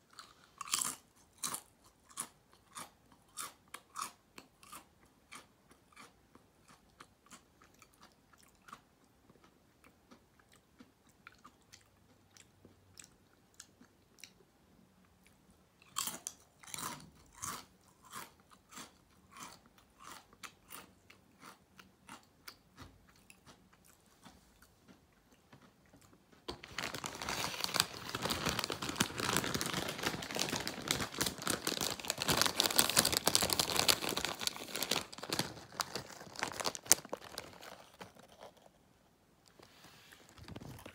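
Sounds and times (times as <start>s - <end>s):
chewing potato chips: 0.0s - 38.8s, 40.2s - 40.9s.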